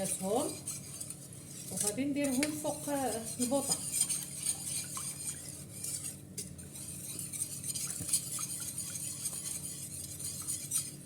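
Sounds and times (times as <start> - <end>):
utensil stirring in a pot: 0.0 - 11.0.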